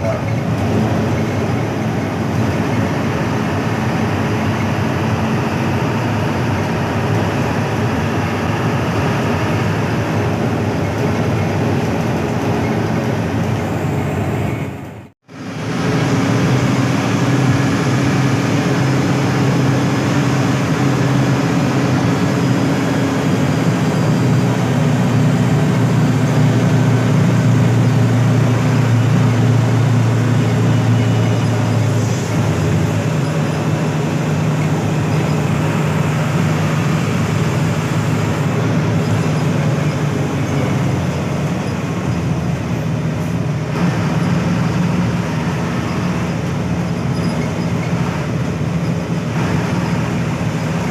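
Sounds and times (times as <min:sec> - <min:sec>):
bus diesel engine running: 0:00.0 - 0:50.9
road noise: 0:00.0 - 0:50.9.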